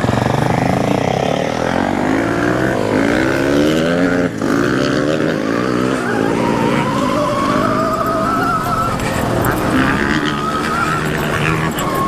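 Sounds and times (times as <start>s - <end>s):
electric motorbike motor whining: 0.0s - 12.0s.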